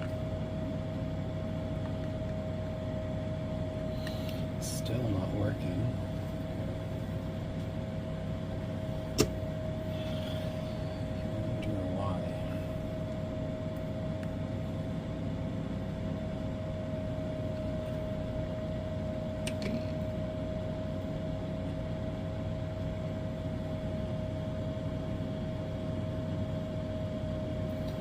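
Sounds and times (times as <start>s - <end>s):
motor humming with whine: 0.0s - 28.0s.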